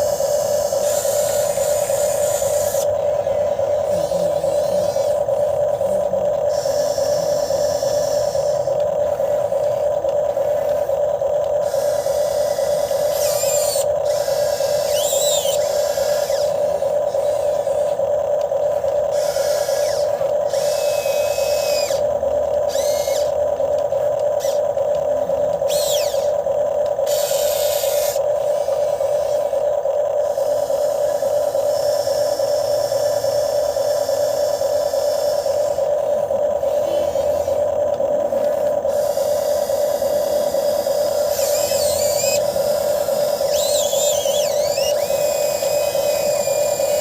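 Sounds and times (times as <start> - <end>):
hissing and whirring bursts: 0.0 - 47.0
hydraulic pump whine: 0.0 - 47.0.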